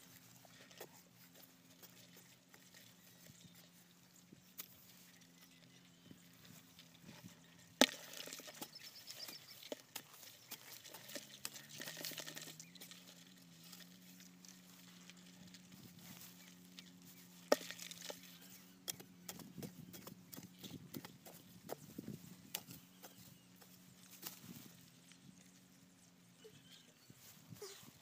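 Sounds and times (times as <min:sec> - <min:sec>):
crumbling soil: 0:00.0 - 0:25.8.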